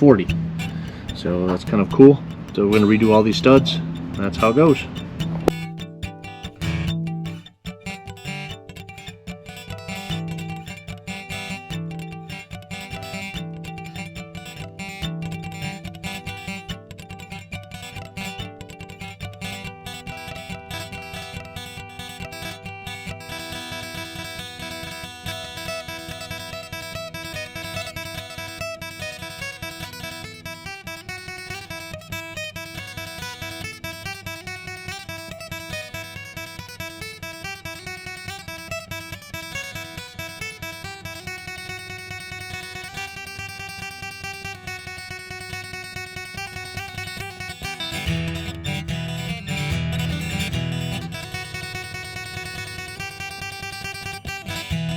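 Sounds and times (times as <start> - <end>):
acoustic guitar music: 0.0 - 54.9.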